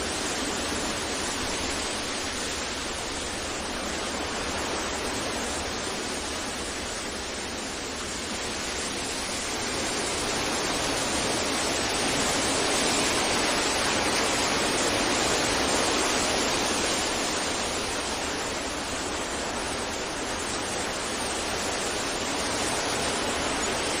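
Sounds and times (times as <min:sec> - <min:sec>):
rushing wind: 0:00.0 - 0:24.0.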